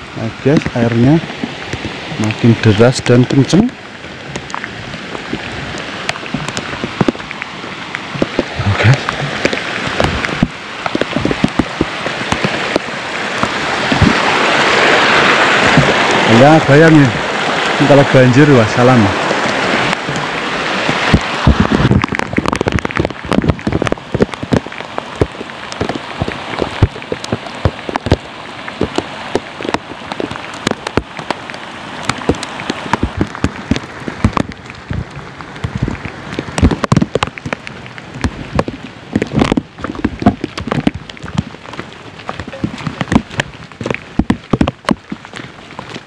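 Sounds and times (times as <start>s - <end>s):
heavy rain: 0.0s - 46.0s
raindrops tapping close by: 0.0s - 46.0s.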